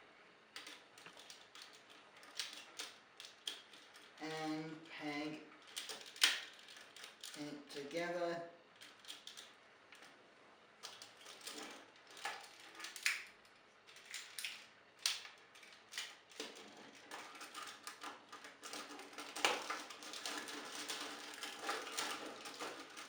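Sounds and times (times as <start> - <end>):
plastic toy parts clicking and rattling: 0.6 - 4.2, 5.6 - 7.4, 8.7 - 10.2, 10.8 - 23.0.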